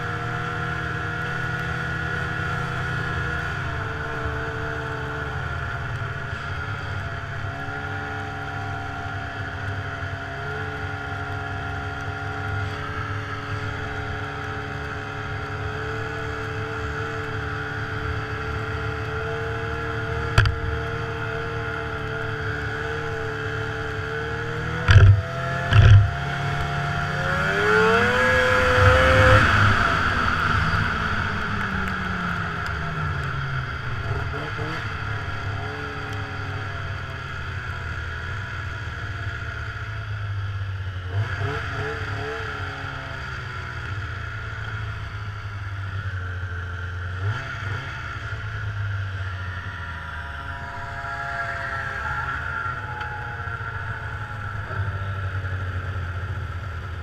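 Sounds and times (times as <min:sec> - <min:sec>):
snowmobile engine revving: 0:00.0 - 0:40.1, 0:41.0 - 0:57.0.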